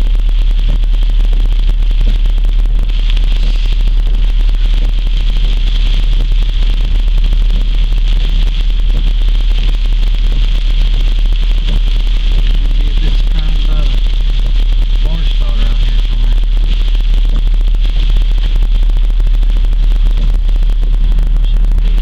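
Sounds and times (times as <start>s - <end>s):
constant hiss: 0.0s - 22.0s
storm wind buffeting microphone: 2.0s - 22.0s.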